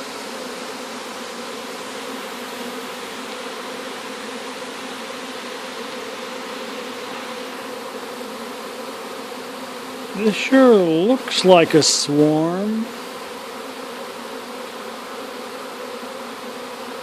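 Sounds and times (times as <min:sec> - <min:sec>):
bees humming: 0:00.0 - 0:17.0.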